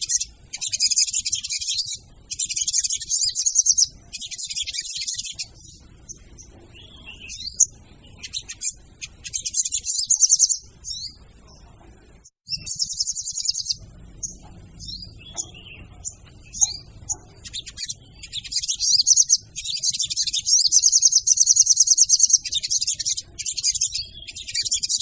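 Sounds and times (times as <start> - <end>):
bird chattering trills: 0.0 - 11.2, 12.5 - 25.0
bird chirps: 0.0 - 25.0.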